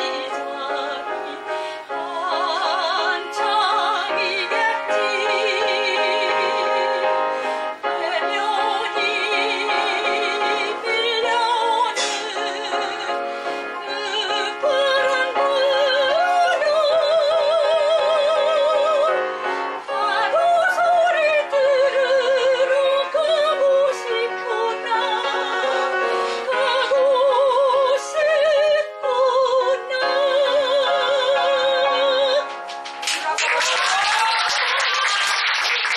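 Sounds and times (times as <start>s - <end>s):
soprano singing operatically: 0.0s - 32.6s
piano accompaniment: 0.0s - 35.9s.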